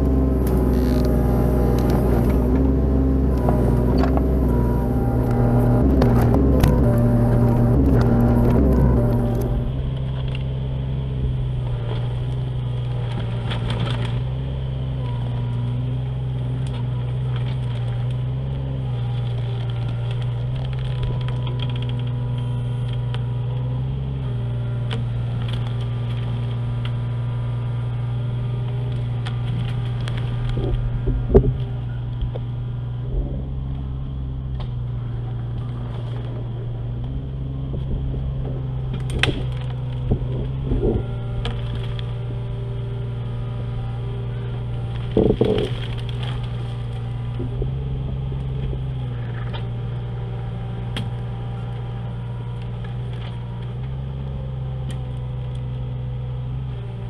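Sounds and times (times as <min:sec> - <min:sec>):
mini excavator engine running: 0:00.0 - 0:57.0.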